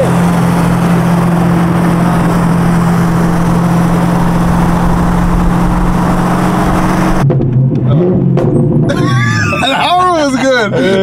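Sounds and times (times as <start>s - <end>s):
car engine drone: 0.0s - 11.0s
road and wind noise: 0.0s - 11.0s.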